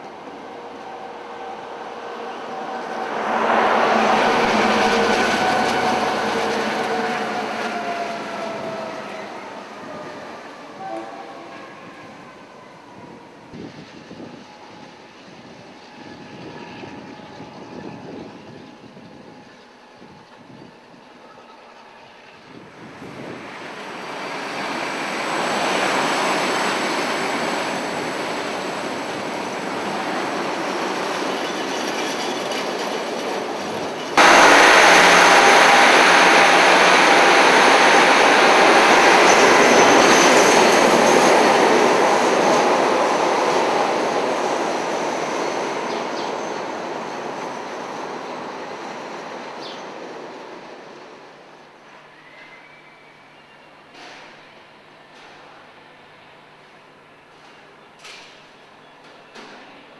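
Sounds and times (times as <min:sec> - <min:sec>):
train along platform: 0:00.0 - 0:59.9
train rumbling past: 0:00.0 - 0:59.9.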